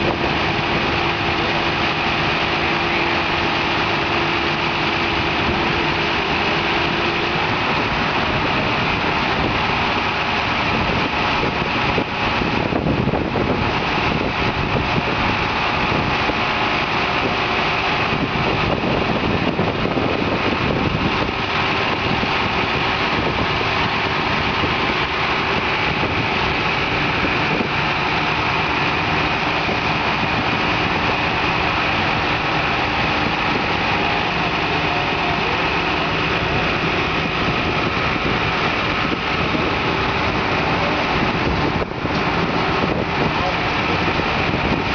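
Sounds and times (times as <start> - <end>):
forklift engine running: 0.0 - 44.9.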